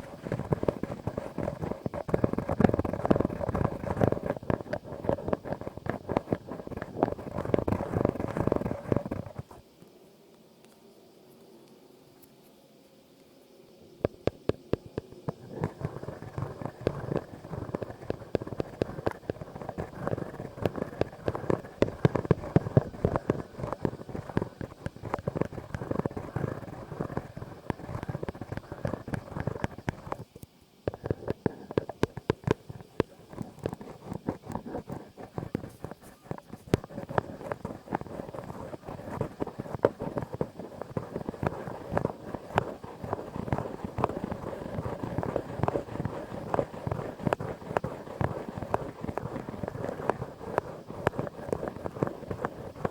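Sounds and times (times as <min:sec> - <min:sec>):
rapid crackling and clicking: 0:00.0 - 0:09.7, 0:14.0 - 0:52.9.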